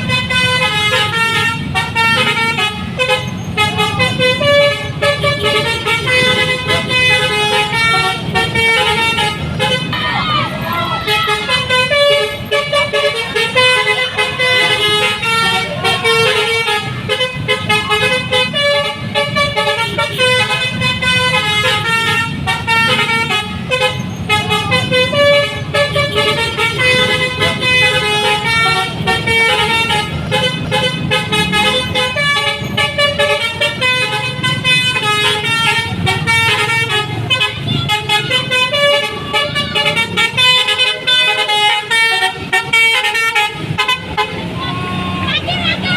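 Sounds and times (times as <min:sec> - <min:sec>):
bus engine rumble: 0:00.0 - 0:45.9
multi-tone air horn melody: 0:00.0 - 0:45.9.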